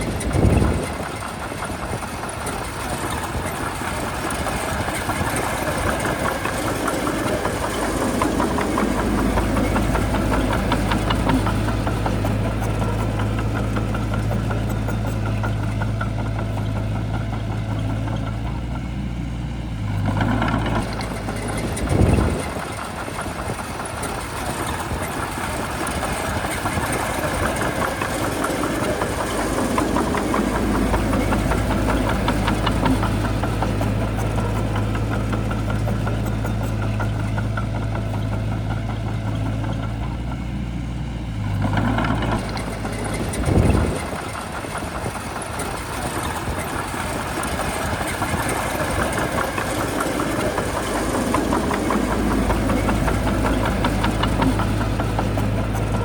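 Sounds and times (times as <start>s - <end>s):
bulldozer diesel engine clattering: 0.0s - 56.0s.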